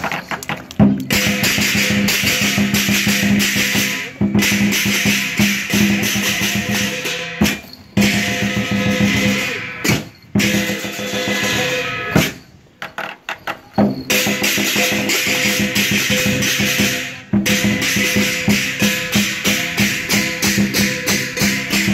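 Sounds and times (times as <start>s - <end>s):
drum beaten fast: 0.8s - 12.4s, 13.8s - 21.9s
crashing cymbals: 1.1s - 12.5s, 13.9s - 21.9s.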